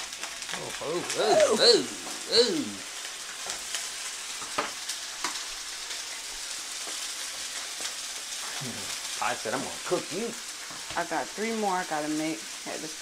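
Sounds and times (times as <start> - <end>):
sausages sizzling in a skillet: 0.0 - 13.0.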